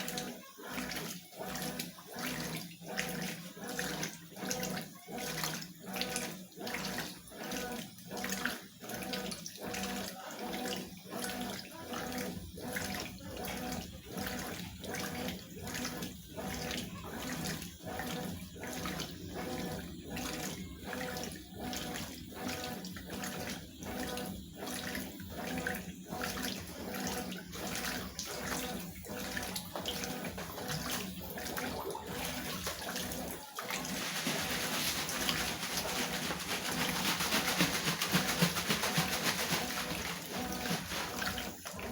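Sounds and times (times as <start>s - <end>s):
washing machine motor hum: 0.0s - 41.9s
washing machine water sloshing: 0.0s - 41.9s.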